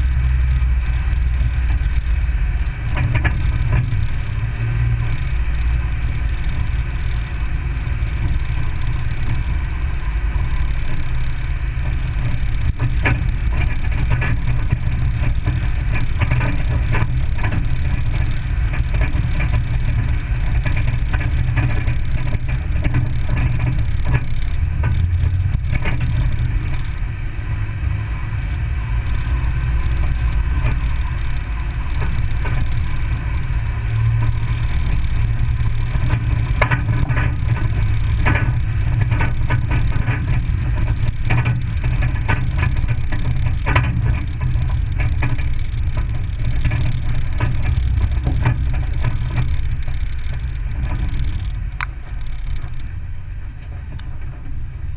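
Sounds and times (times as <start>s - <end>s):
gravel clicks and knocks: 0.0s - 27.1s, 27.8s - 52.9s
vehicle rumbling on gravel: 0.0s - 54.9s.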